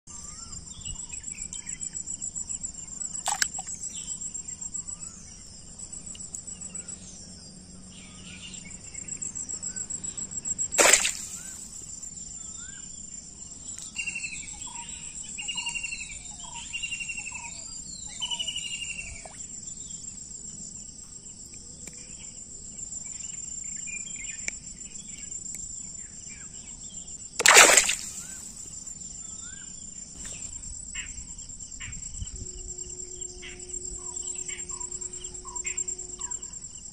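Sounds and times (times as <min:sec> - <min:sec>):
insects trilling: 0:00.1 - 0:36.9.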